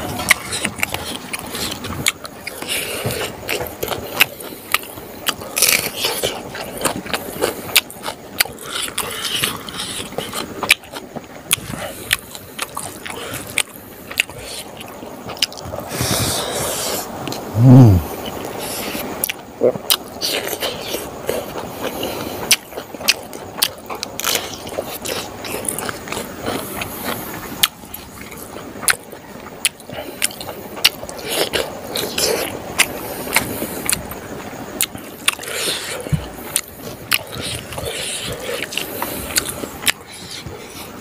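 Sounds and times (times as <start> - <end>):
wet chewing and lip smacking: 0.2 - 16.2, 18.3 - 41.0.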